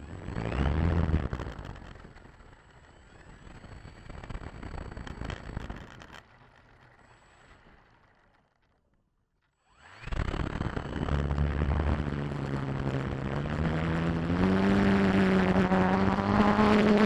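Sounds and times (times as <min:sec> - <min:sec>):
model airplane motor droning: 0:00.0 - 0:08.7, 0:09.6 - 0:17.0.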